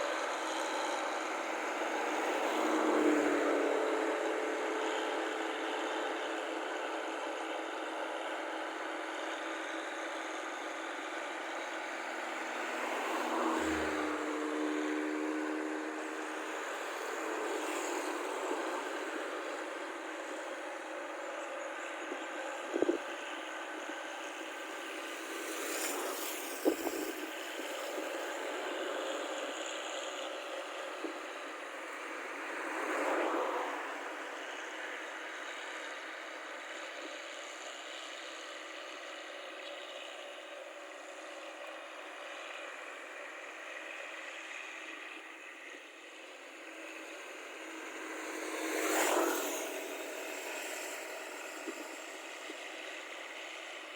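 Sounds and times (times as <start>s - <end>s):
harvester engine humming: 0.0s - 53.9s.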